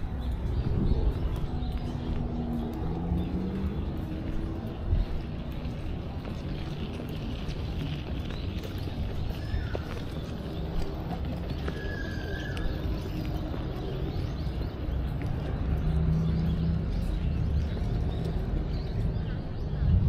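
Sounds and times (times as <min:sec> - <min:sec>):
faint footsteps: 0:00.0 - 0:20.0
low street rumble: 0:00.0 - 0:20.0.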